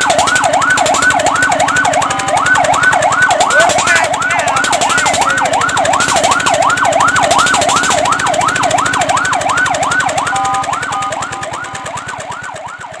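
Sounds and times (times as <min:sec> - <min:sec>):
fire truck siren yelp: 0:00.0 - 0:13.0.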